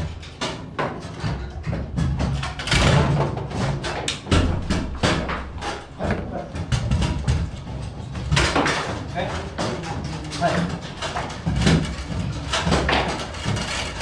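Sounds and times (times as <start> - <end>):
foosball rods clacking: 0.0 - 14.0.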